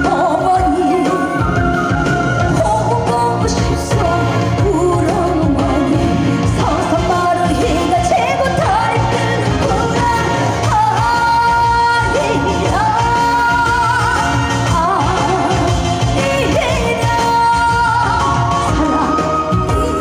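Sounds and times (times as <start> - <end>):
amplified musical accompaniment: 0.0 - 20.0
woman singing with vibrato: 0.0 - 20.0.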